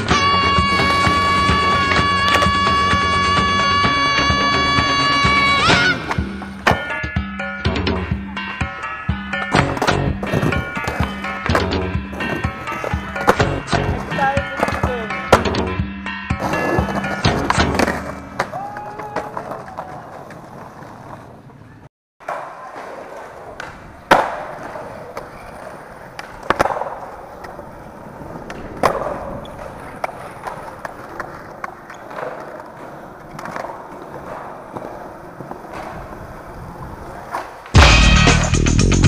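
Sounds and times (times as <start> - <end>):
skateboard wheels rolling on concrete: 0.0 - 39.0
skateboard clacking on ground: 0.2 - 7.1, 8.0 - 15.6, 16.4 - 37.8.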